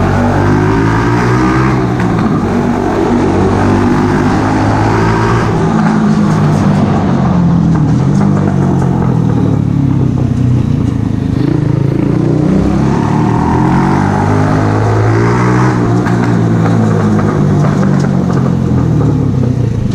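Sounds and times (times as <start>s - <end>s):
motorcycle engine running loud: 0.0s - 19.9s.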